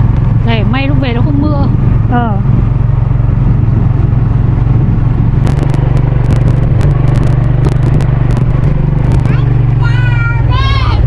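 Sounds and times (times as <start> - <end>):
motorbike engine hum: 0.0 - 11.0
road noise rushing: 0.0 - 11.0.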